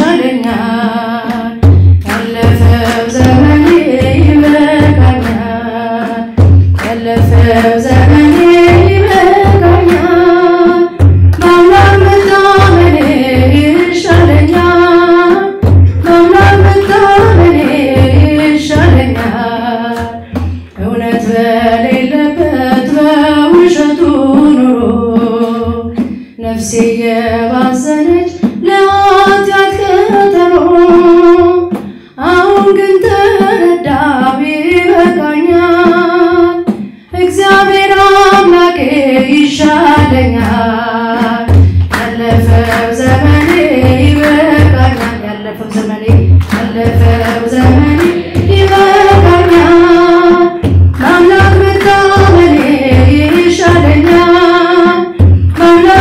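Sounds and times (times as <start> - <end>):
low pulsing beat: 0.0 - 31.7, 39.7 - 56.0
woman singing into microphone: 0.0 - 56.0.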